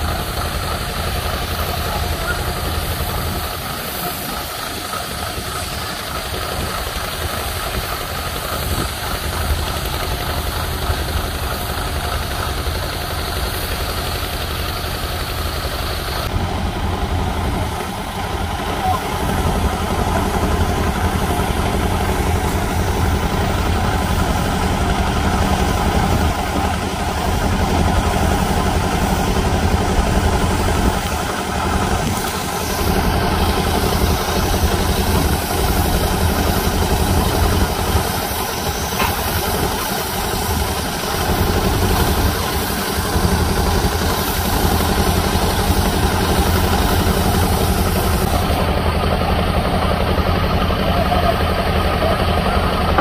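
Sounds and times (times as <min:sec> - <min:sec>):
truck engine droning: 0:00.0 - 0:53.0.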